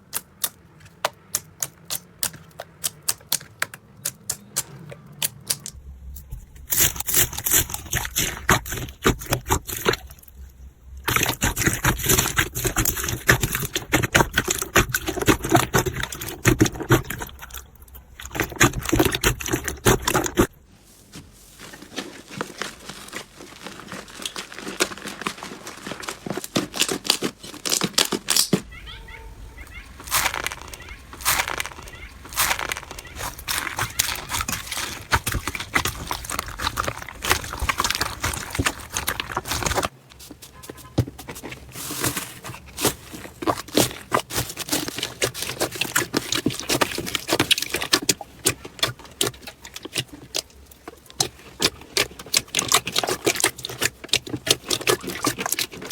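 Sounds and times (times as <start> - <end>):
slime crackling and squelching: 0.0 - 20.6, 21.5 - 55.9.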